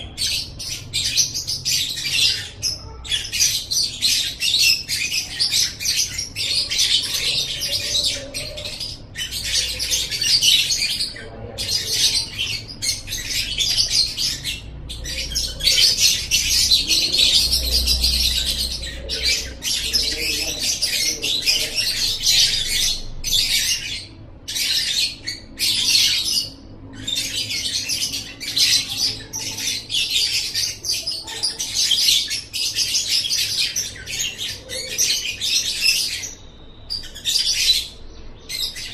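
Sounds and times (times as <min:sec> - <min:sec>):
bird high-pitched chattering: 0:00.0 - 0:38.9.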